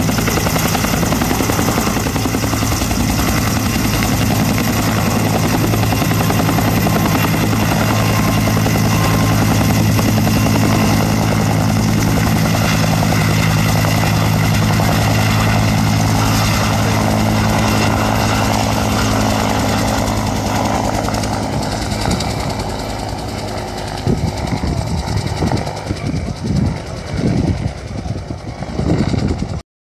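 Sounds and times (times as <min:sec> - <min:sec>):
helicopter rotor and engine drone: 0:00.0 - 0:29.6.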